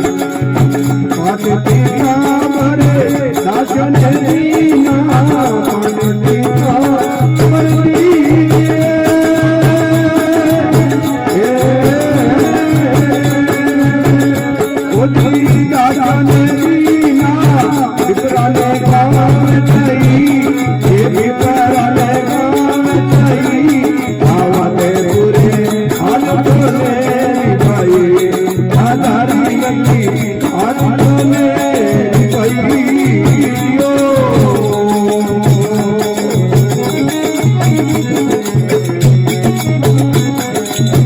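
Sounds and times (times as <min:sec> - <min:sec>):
folk devotional song singing: 0:00.0 - 0:41.0.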